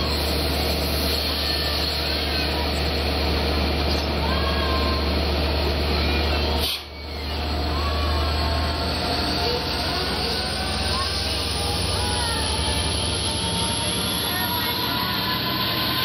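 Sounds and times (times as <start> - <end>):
diesel locomotive droning: 0.0 - 16.0.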